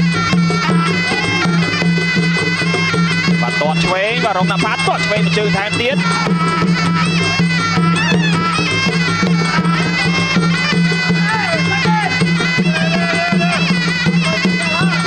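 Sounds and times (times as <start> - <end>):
reed oboe melody: 0.0 - 15.0.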